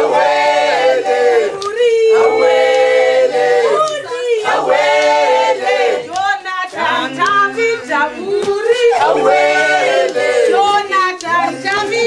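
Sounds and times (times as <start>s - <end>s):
group singing in harmony: 0.0s - 12.0s.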